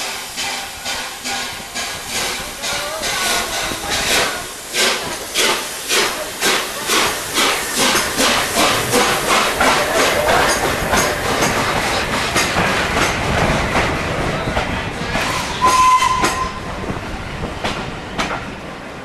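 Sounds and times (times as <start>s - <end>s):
train wheels clattering: 0.0s - 18.7s.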